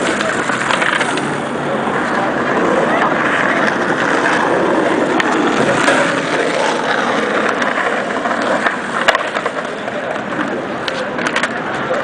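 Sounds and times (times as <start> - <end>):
skateboard clacks: 0.0 - 12.0
skateboard wheels rolling on pavement: 0.0 - 12.0.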